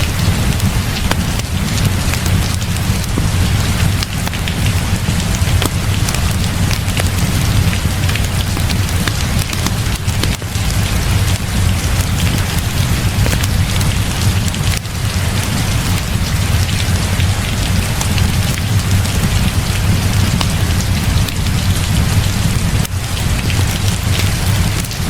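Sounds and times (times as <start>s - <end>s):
small sharp ticks: 0.0s - 21.6s
heavy rain falling: 0.0s - 25.0s.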